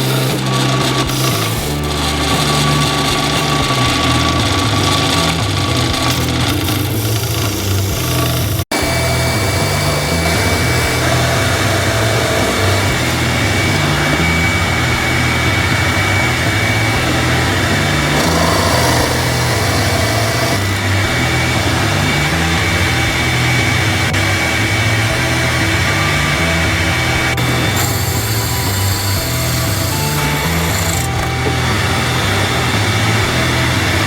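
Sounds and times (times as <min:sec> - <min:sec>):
power tool running with whine: 0:00.0 - 0:34.0.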